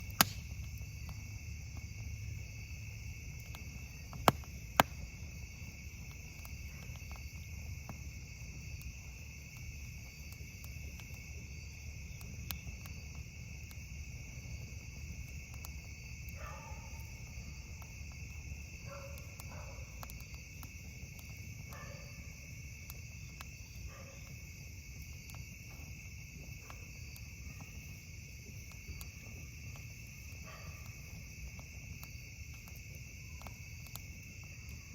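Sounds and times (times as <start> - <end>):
campfire crackling: 0.0 - 34.9
campfire pops: 0.0 - 34.9
crickets chirping: 0.0 - 34.9.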